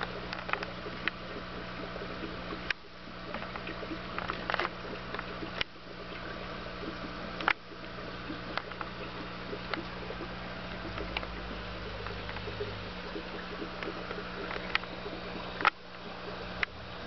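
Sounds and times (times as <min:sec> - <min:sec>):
air bubbles bubbling: 0:00.0 - 0:17.0
air pump humming: 0:00.0 - 0:17.0.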